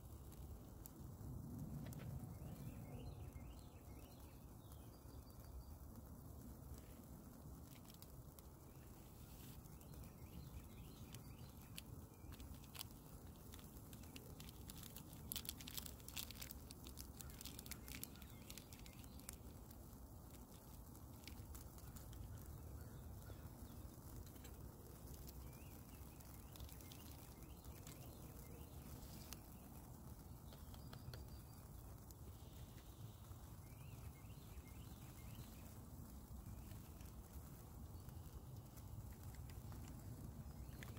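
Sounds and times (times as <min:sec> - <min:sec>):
foil packet crackling and tearing: 0:06.8 - 0:40.9.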